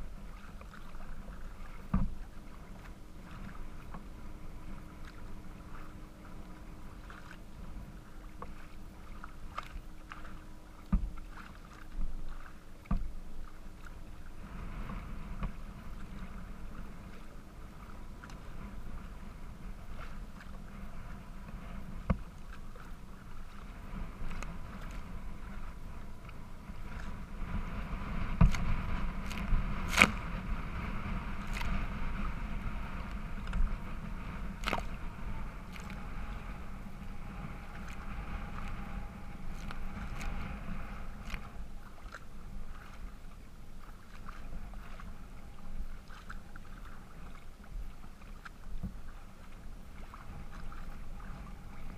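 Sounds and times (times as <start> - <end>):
water splashing against hull: 0.0 - 51.9
wind rumble on microphone: 0.0 - 51.9.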